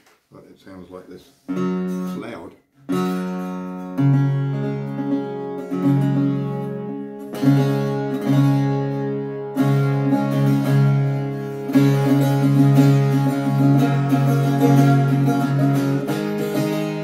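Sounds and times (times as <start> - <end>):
bouzouki strummed chords: 1.5 - 17.0.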